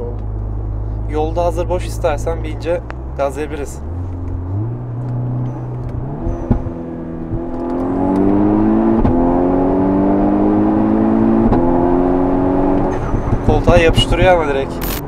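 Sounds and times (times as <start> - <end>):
car engine accelerating: 0.1 - 15.0.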